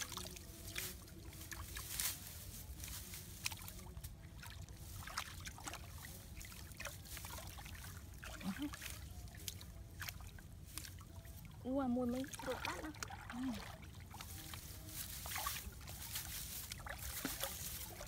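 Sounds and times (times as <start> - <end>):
shallow water splashing: 0.0 - 18.0.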